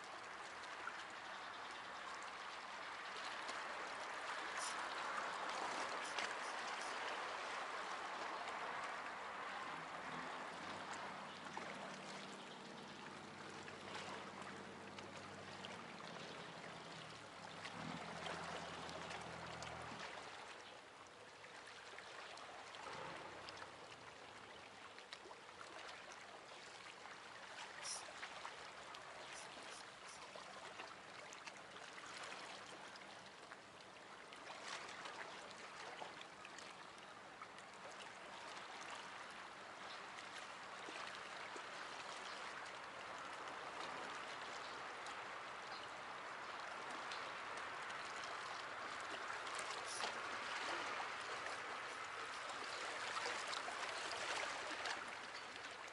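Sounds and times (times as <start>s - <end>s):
water lapping against rocks: 2.6s - 20.6s, 21.4s - 36.7s, 37.6s - 55.9s.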